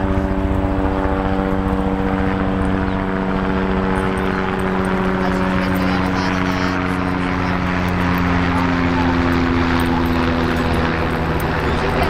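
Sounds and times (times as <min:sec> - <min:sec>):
loud engine drone: 0:00.0 - 0:12.0.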